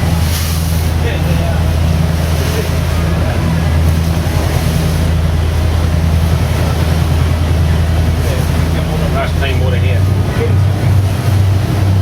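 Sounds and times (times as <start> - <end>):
boat engine droning: 0.0 - 12.0
water noise: 0.0 - 12.0
wind: 0.0 - 12.0.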